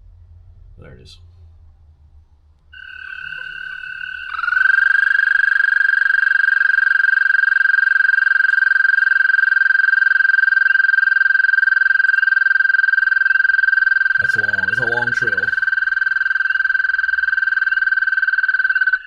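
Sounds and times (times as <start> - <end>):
frog trilling: 2.7 - 19.0.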